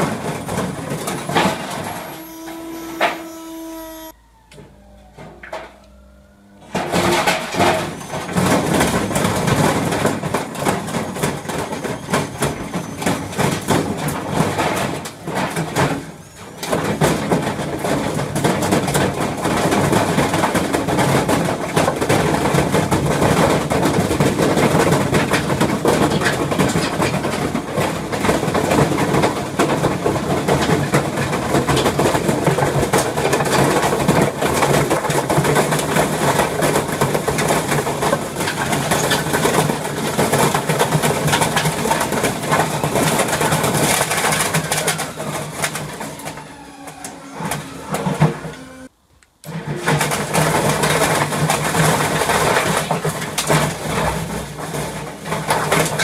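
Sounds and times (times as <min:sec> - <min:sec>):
washing machine clattering and banging: 0:00.0 - 0:01.9, 0:06.8 - 0:46.4, 0:49.6 - 0:56.0.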